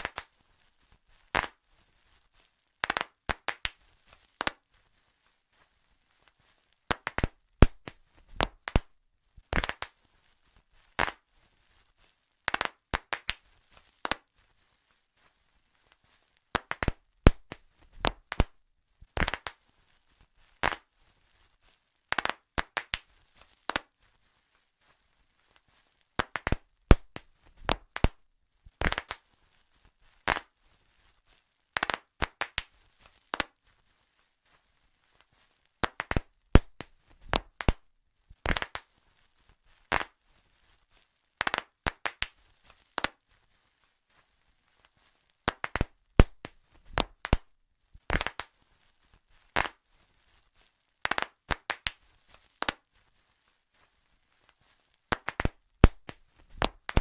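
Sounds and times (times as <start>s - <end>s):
bubble wrap popping: 0.0s - 57.0s.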